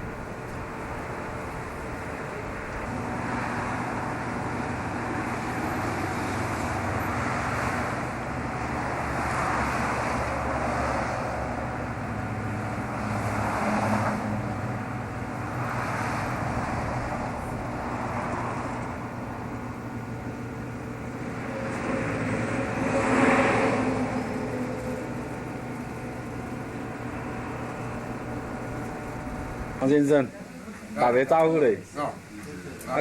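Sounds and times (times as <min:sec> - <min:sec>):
steady low hum: 0:00.0 - 0:33.0
vehicles passing: 0:00.0 - 0:33.0.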